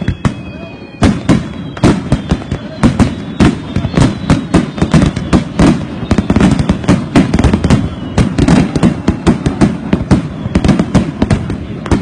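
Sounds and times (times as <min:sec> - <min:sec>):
aerial fireworks bursting: 0:00.0 - 0:12.0.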